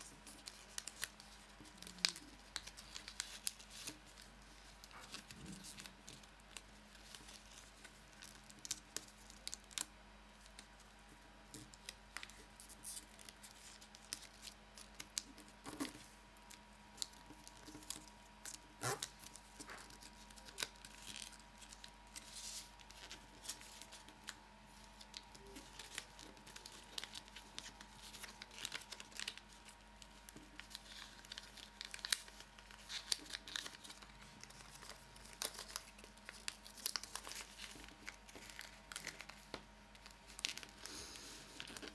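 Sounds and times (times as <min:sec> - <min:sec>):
paper crinkling and rustling: 0:00.0 - 0:41.9.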